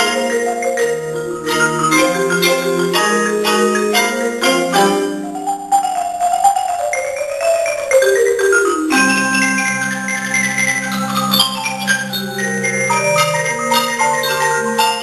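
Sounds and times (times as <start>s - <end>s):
mallet percussion ensemble playing: 0.0s - 15.0s.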